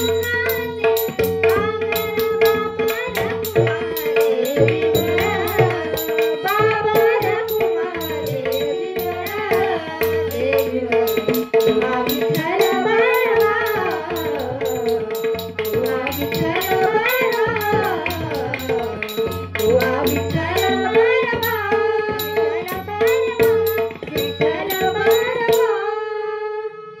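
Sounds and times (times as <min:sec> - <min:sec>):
young female voice singing: 0:00.0 - 0:26.8
tabla rhythm: 0:00.0 - 0:27.0.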